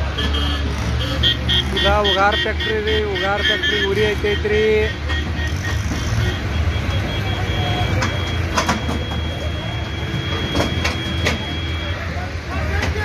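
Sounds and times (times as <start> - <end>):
engines idling: 0.0 - 13.0.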